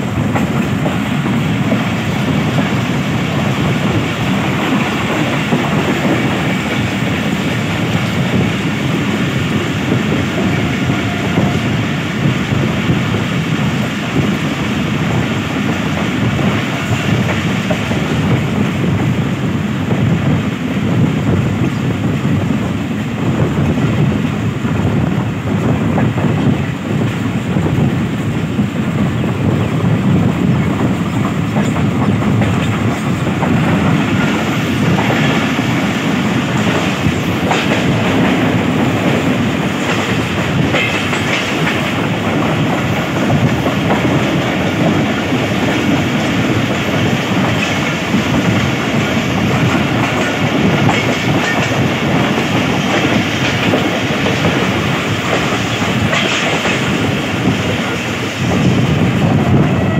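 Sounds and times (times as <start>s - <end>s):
rail joints clickety-clack: 0.0s - 59.9s
train wheels rumbling on rails: 0.0s - 59.9s.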